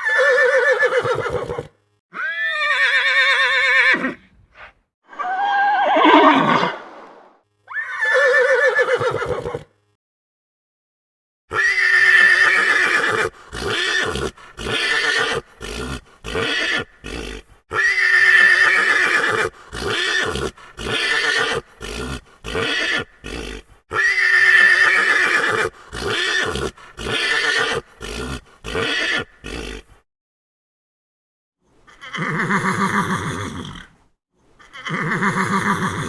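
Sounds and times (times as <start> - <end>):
horse neighing: 0.0 - 4.2, 5.1 - 9.7, 11.5 - 29.8, 31.9 - 33.9, 34.6 - 36.0.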